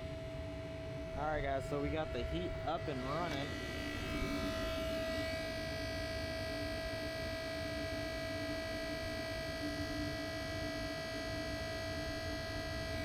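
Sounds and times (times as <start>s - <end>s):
rooftop unit humming: 0.0s - 13.0s.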